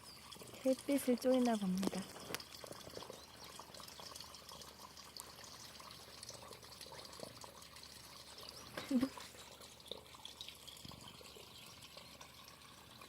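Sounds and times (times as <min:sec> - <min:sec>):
small water drips: 0:00.0 - 0:13.0
water trickling into a pond: 0:00.0 - 0:13.0.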